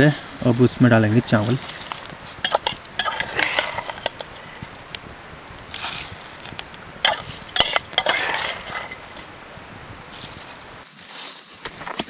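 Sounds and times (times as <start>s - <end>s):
scraping and rustling around pot: 0.1s - 9.4s, 10.1s - 12.0s.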